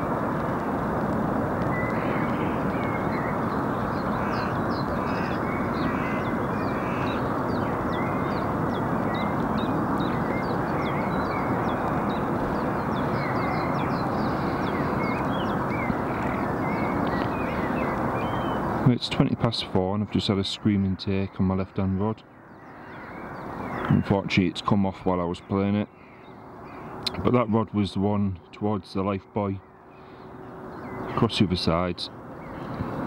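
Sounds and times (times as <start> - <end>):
birds chirping: 0.0 - 33.0
steady rushing background noise: 0.0 - 33.0.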